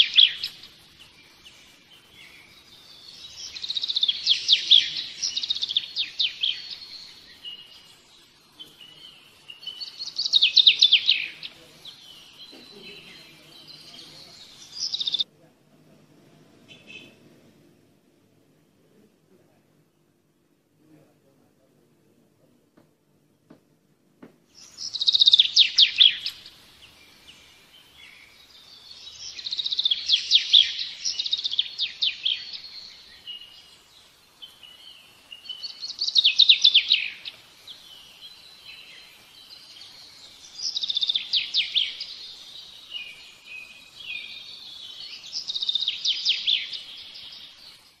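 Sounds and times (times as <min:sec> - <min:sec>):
bird chirping trills: 0:00.0 - 0:15.3, 0:16.6 - 0:17.6, 0:24.5 - 0:48.0.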